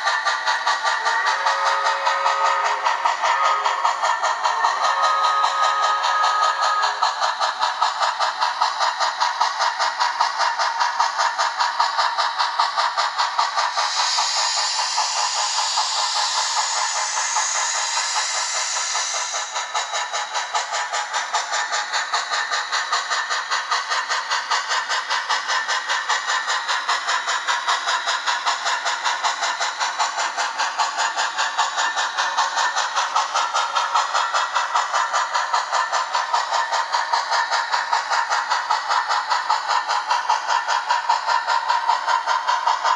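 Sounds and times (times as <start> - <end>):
model locomotive exhaust chuffs: 0.0 - 42.9
steam hiss: 0.0 - 42.9.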